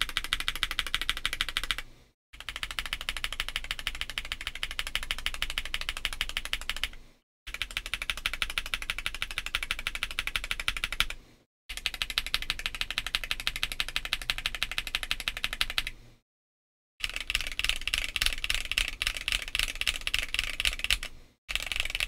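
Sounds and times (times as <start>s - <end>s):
fast mechanical keyboard typing: 0.0s - 16.0s, 17.0s - 22.0s.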